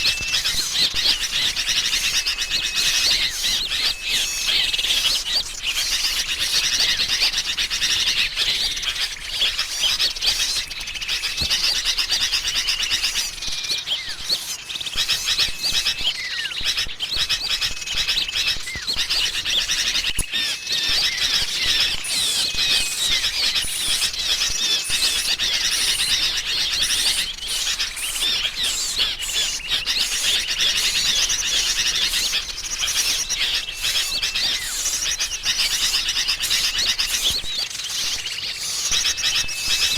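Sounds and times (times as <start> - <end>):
bulbuls calling: 0.0 - 39.9
small birds chattering: 0.0 - 39.9.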